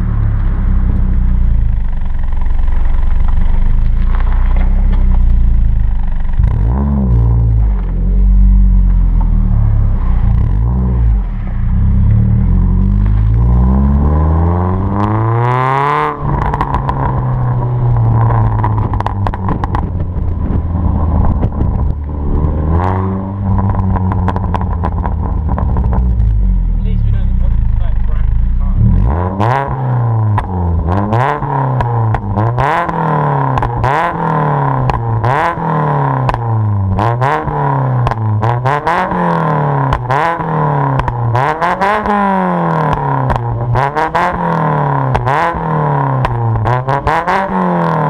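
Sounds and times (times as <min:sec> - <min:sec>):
car engine revving: 0:00.0 - 0:48.0
exhaust pops and crackles: 0:00.0 - 0:48.0.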